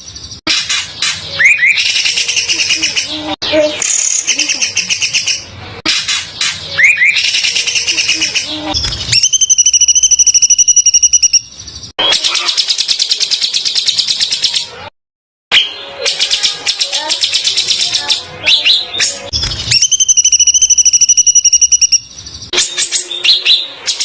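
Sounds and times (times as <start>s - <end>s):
high pulsed bird trill: 0.0s - 5.5s, 6.4s - 14.7s, 15.5s - 24.0s.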